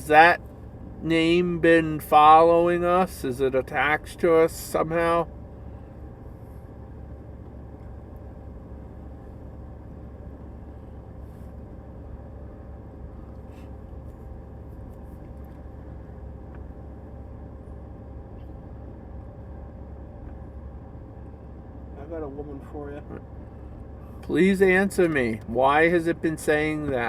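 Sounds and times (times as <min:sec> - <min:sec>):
faint steady tone: 0:00.0 - 0:27.0.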